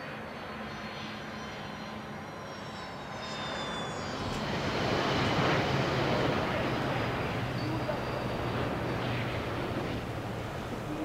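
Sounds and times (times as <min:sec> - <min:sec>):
high engine whine falling in pitch: 0:00.0 - 0:11.0
jet engines flying past: 0:00.0 - 0:11.0.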